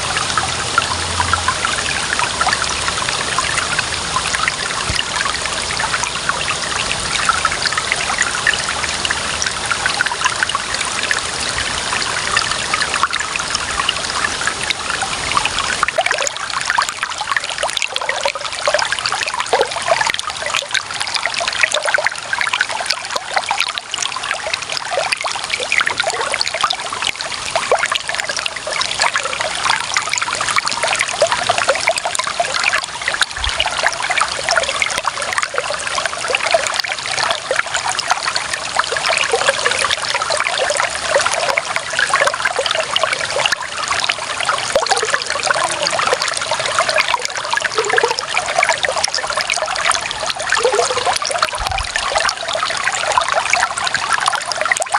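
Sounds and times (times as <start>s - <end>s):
water trickling and splashing: 0.0s - 54.9s.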